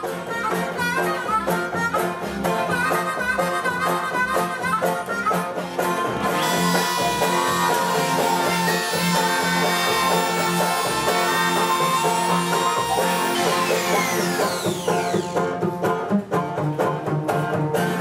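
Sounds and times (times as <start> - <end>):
instrumental music with steady beat: 0.0 - 18.0.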